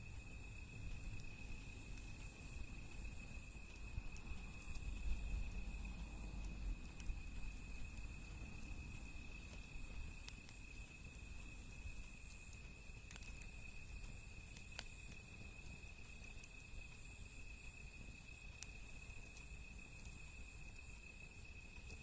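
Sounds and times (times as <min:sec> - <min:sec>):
high insect trill: 0:00.0 - 0:22.0
wood fire crackling: 0:00.0 - 0:22.0.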